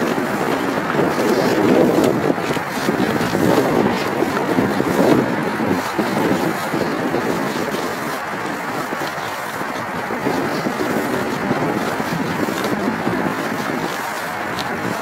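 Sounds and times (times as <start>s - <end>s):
rain coat rustling: 0.0s - 15.0s
wind buffeting microphone: 0.0s - 15.0s.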